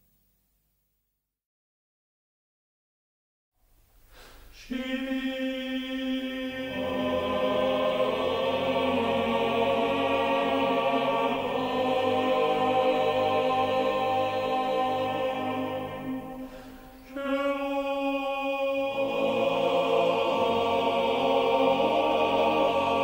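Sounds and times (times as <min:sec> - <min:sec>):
choir singing sustained chord: 0:04.6 - 0:23.0.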